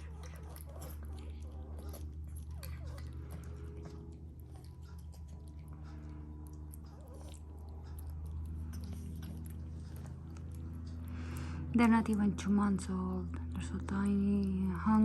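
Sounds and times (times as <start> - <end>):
kittens chewing food: 0.0 - 15.0.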